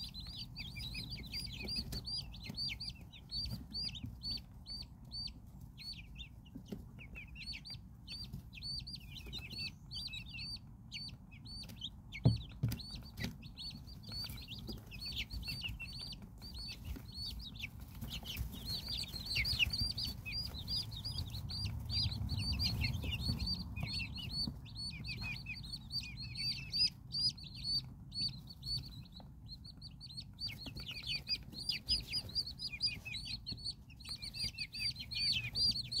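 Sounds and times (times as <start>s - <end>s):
baby chicks peeping: 0.0s - 36.0s.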